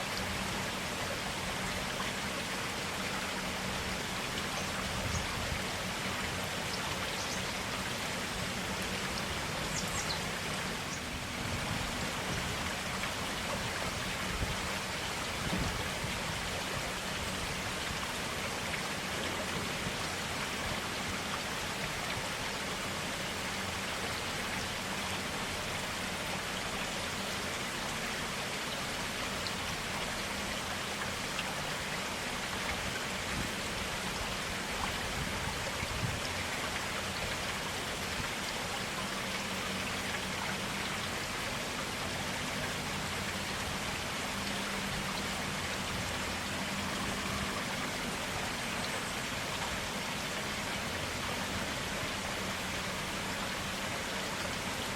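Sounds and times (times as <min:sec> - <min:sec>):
stream flowing: 0:00.0 - 0:54.9
water drips and splashes: 0:00.0 - 0:54.9.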